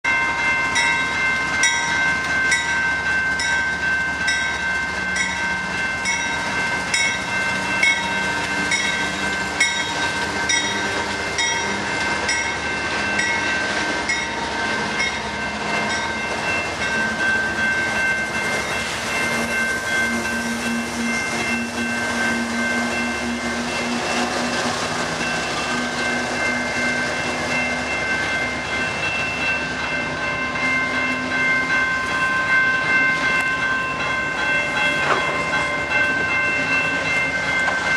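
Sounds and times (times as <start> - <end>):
crossing bell ringing: 0.0 - 37.9
diesel locomotives rumbling: 0.0 - 37.9
train wheels on rail: 0.1 - 37.9.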